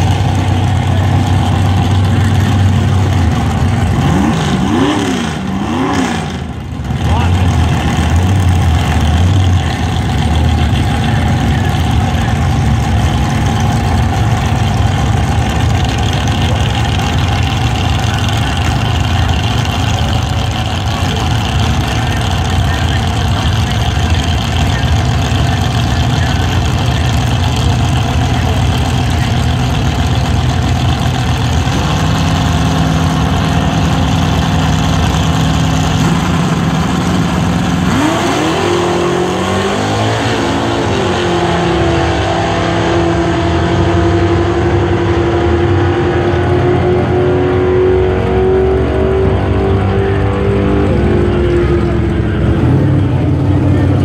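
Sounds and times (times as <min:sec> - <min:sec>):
drag car engines revving: 0:00.0 - 0:54.0.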